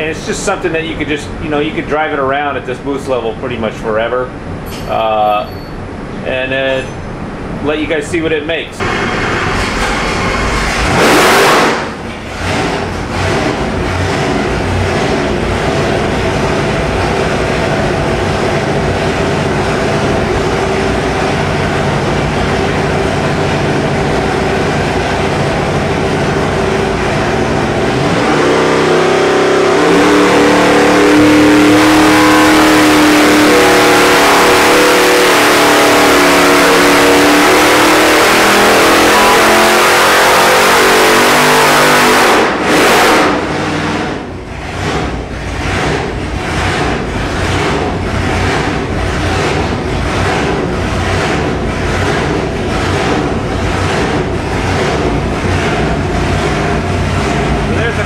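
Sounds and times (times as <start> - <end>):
supercharged engine revving under load: 8.8 - 58.0.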